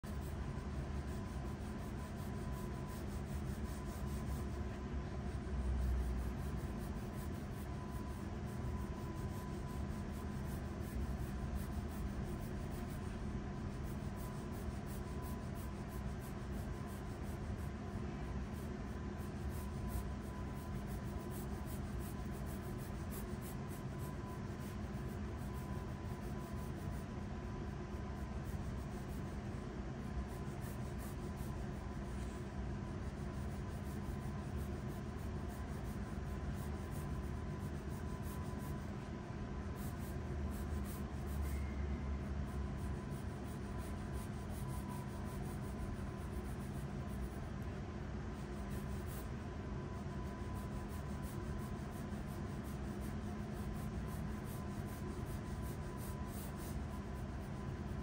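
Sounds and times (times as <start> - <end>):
pencil scratching on paper: 0.0 - 58.0
steady background hum: 0.0 - 58.0.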